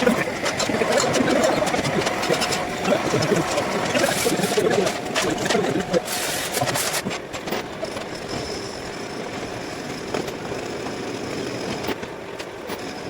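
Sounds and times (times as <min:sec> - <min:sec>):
workshop machine running: 0:00.0 - 0:13.0.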